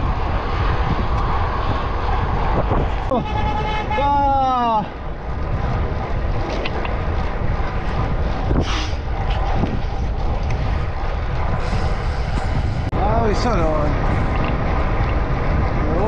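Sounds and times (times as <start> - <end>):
faint road noise: 0.0 - 16.0
wind buffeting microphone: 0.0 - 16.0.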